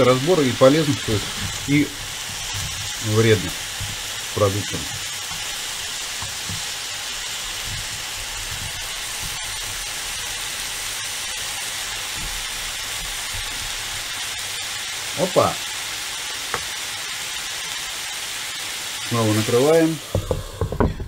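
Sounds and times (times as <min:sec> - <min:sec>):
vegetables sizzling in a pan: 0:00.0 - 0:21.0.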